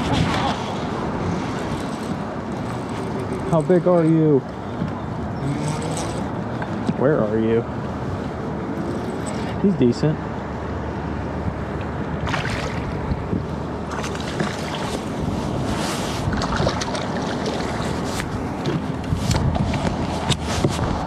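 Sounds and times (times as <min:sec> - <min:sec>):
wind rumbling on microphone: 0:00.0 - 0:09.3, 0:11.2 - 0:21.0.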